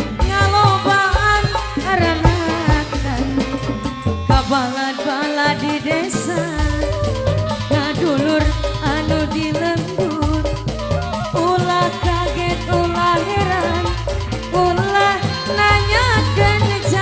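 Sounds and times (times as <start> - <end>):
bending lead melody: 0.0 - 17.0
drums and bass: 0.0 - 17.0.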